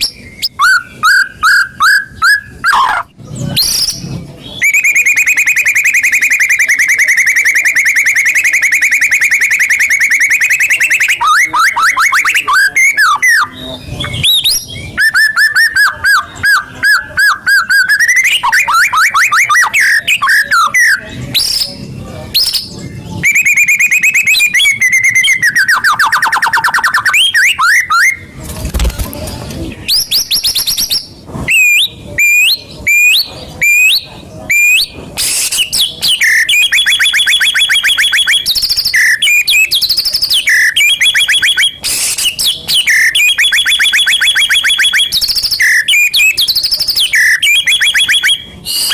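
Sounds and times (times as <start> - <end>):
bird song trills and whistles: 0.0 - 48.9.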